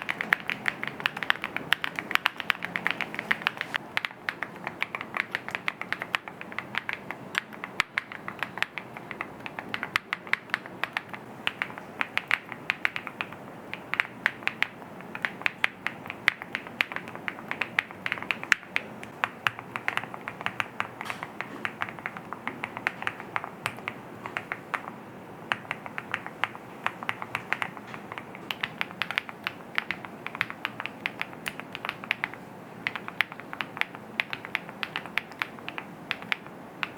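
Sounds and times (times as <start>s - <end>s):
fast typing on mechanical keyboard: 0.0s - 36.9s.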